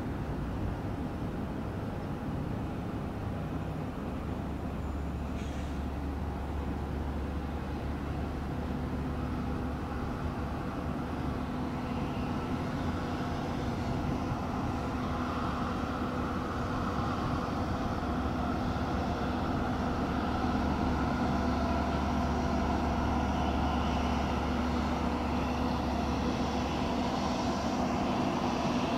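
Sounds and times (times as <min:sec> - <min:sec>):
jet engines droning: 0:00.0 - 0:28.9.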